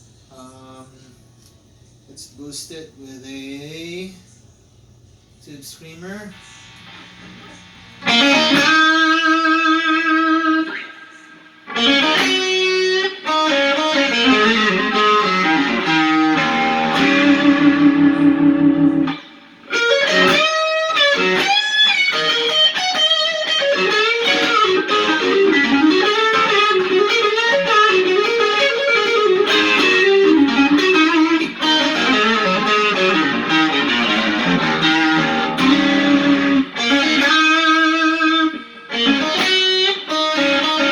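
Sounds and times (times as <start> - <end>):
overdriven electric guitar blues licks: 6.8 - 40.9.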